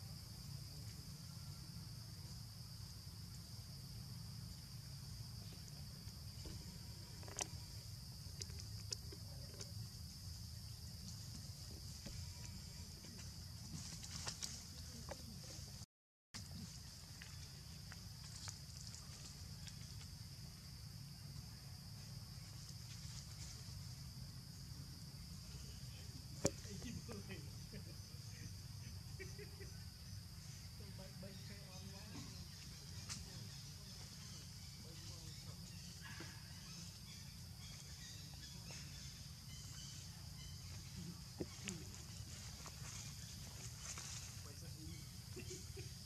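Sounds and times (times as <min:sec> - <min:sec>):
high-pitched insect chorus: 0:00.0 - 0:15.8, 0:16.4 - 0:46.0.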